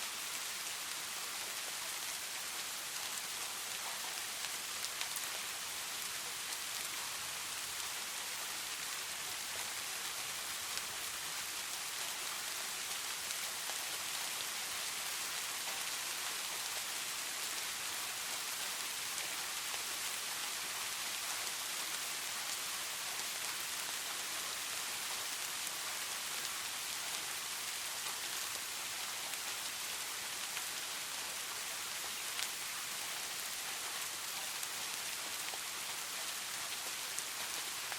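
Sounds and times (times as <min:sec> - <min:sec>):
steady rain hiss: 0:00.0 - 0:37.9.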